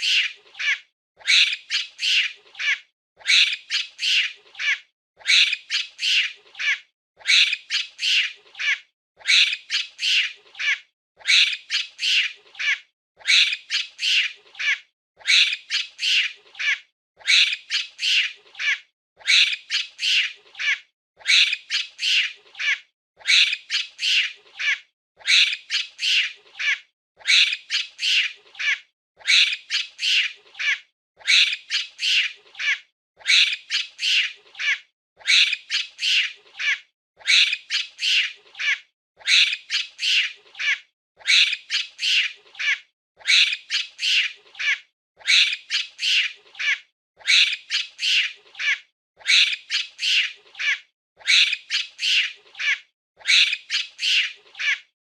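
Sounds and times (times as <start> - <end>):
monkey squeaky cries: 0.0 - 54.9.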